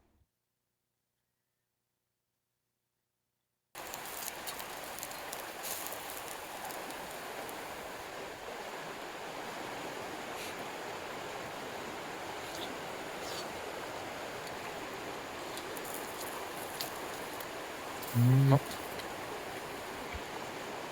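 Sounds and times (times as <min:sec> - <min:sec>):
stream water rushing: 0:03.8 - 0:20.9.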